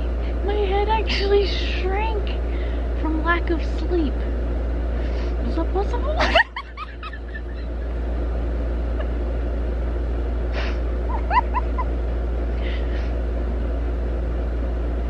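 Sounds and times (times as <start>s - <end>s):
steady deep hum: 0.0s - 15.0s.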